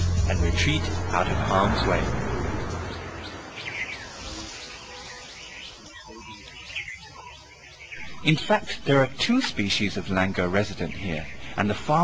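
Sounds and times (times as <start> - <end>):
falling bird chirps: 1.2 - 12.0.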